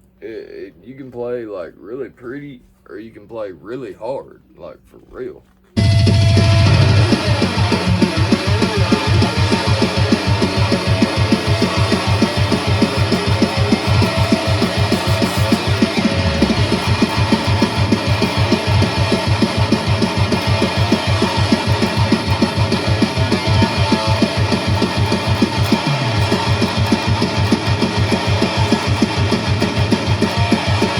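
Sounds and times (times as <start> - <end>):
distorted electric guitar riffing: 5.8 - 30.9
drum beat: 5.8 - 30.9.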